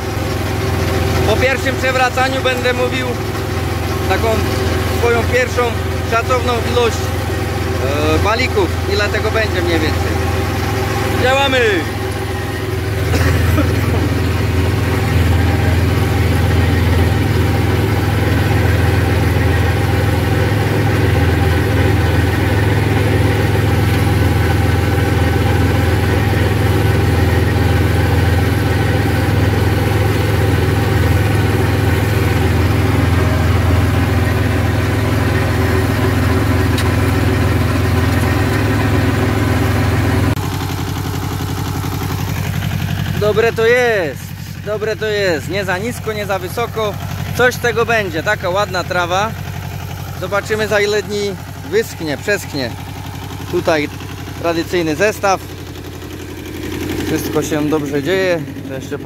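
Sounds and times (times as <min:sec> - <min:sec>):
rotary mower cutting grass: 0:00.0 - 0:59.0
tractor diesel engine under load: 0:00.0 - 0:59.0.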